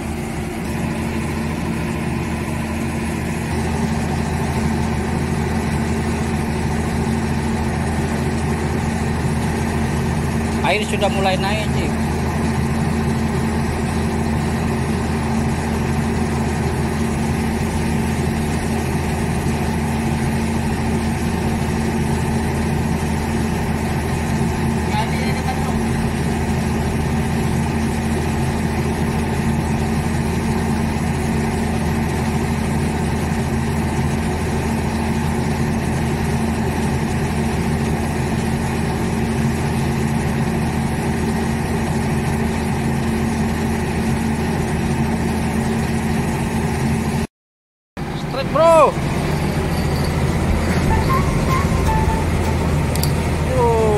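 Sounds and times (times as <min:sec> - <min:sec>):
boat engine idling: 0:00.0 - 0:47.2, 0:48.0 - 0:53.9.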